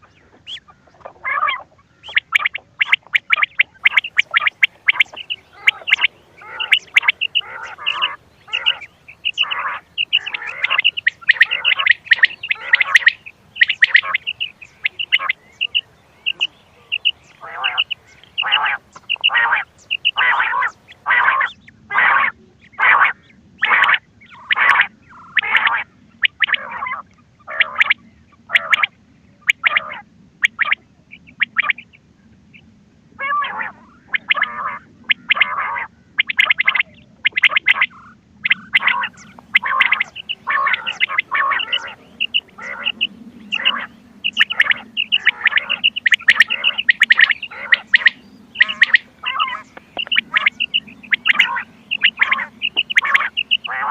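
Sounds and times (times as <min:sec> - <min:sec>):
quail calls: 0:00.0 - 0:32.0, 0:33.2 - 0:53.9
faint low hum: 0:00.0 - 0:53.9.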